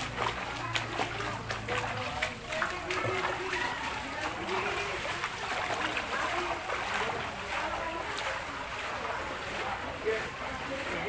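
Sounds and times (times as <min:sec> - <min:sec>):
crowd voices talking and calling: 0:00.0 - 0:11.0.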